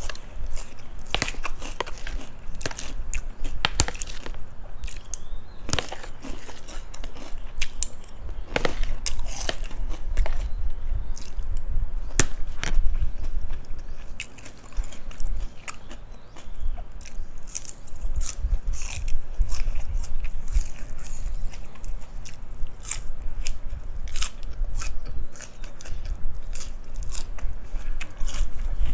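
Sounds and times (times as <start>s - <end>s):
crunchy chewing: 0.0s - 28.9s.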